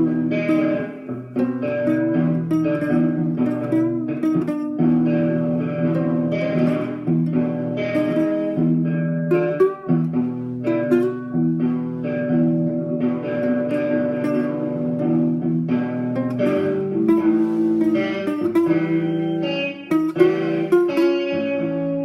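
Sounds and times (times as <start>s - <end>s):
guitar picked chords: 0.0s - 22.0s.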